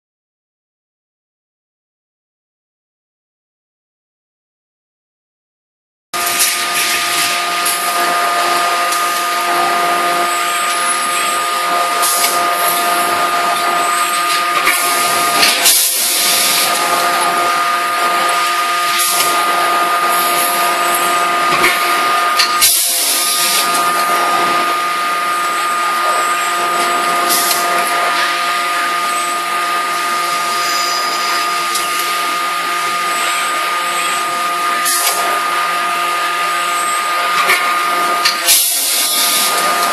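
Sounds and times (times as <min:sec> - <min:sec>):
machinery hum with high whine: 0:06.2 - 0:39.9.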